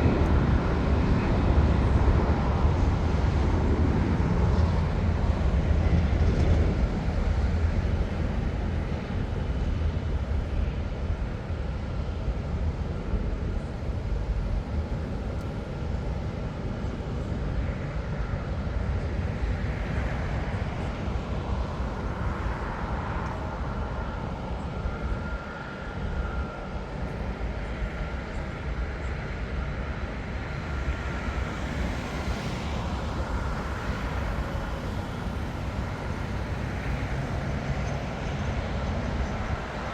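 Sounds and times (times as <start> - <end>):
faint steady whine: 0.0 - 39.9
jet engines rumbling: 0.0 - 39.9.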